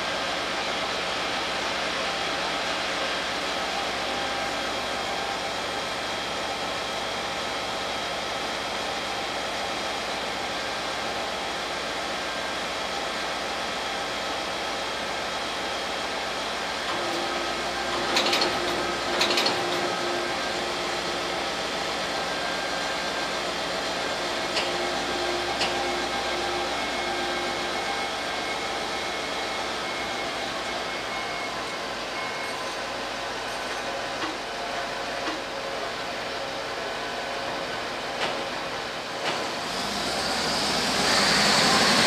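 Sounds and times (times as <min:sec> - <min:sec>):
crane diesel engine humming: 0:00.0 - 0:42.0.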